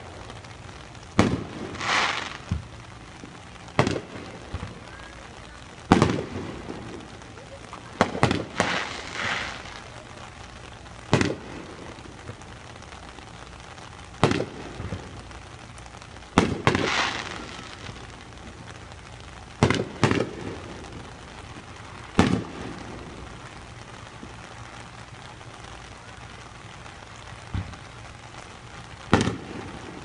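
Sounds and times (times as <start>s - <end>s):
fireworks booming: 0.0s - 30.0s
fireworks crackling: 0.0s - 30.0s.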